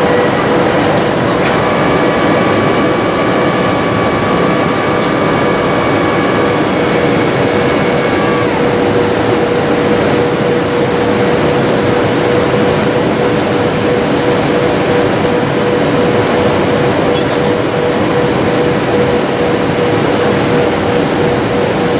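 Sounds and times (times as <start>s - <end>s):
constant hum: 0.0s - 21.9s
high whining tones: 0.0s - 21.9s
jet cabin engine and airflow rush: 0.0s - 21.9s.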